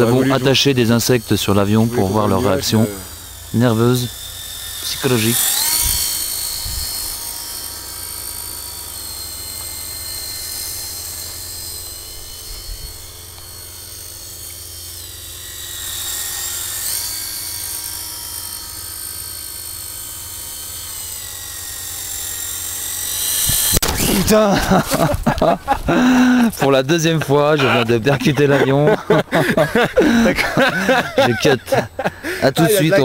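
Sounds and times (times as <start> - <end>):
model plane motor whining: 0.0 - 33.0.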